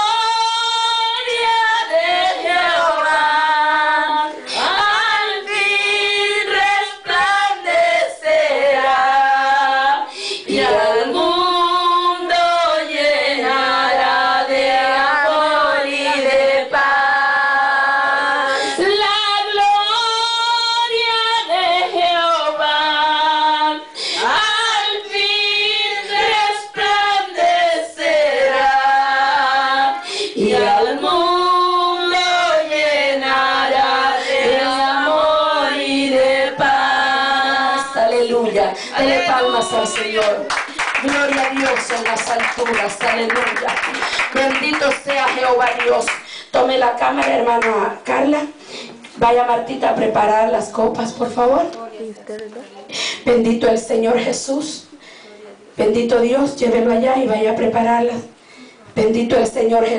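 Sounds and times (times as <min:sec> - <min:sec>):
congregation singing worship song: 0:00.0 - 0:51.5.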